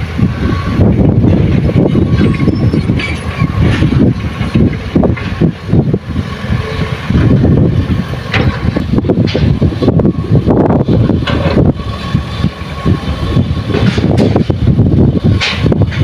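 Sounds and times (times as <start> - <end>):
dump truck diesel engine rumbling: 0.0 - 16.0.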